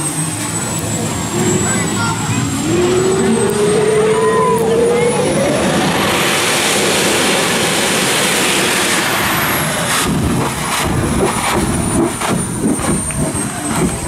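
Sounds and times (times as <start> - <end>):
exhaust bangs: 0.0 - 14.0
jet engine roaring with turbine whine: 0.0 - 14.0.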